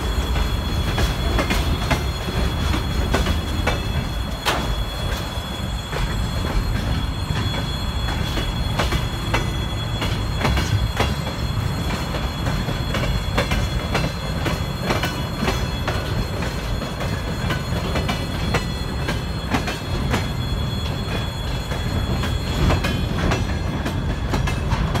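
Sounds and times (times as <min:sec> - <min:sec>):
high wheel squeal: 0:00.0 - 0:25.0
train wheels rumbling on rails: 0:00.0 - 0:25.0
wheels clacking over rail joints: 0:00.0 - 0:25.0.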